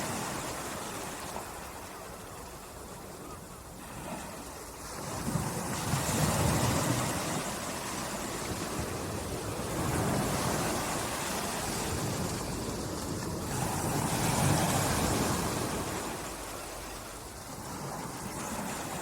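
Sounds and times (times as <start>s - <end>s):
small sea waves lapping: 0.0s - 19.0s.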